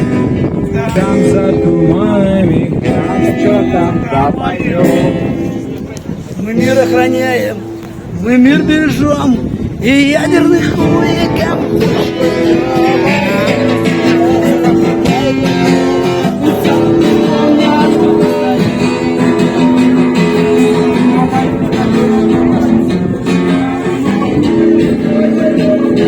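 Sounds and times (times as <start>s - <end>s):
person singing: 0.0s - 5.4s, 10.1s - 26.0s
guitar strumming: 0.0s - 26.0s.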